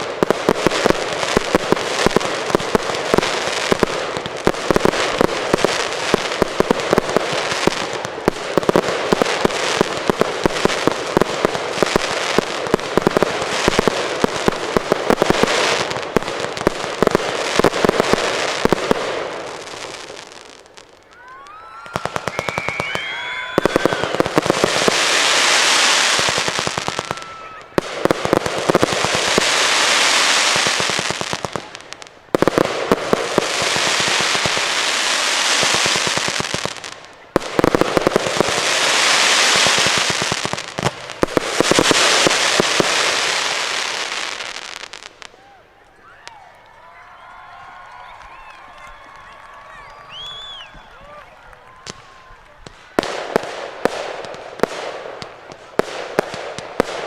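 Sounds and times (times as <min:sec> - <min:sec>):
fireworks crackling hiss: 0:00.0 - 0:46.3, 0:51.8 - 0:57.0
fireworks bangs: 0:00.0 - 0:57.0.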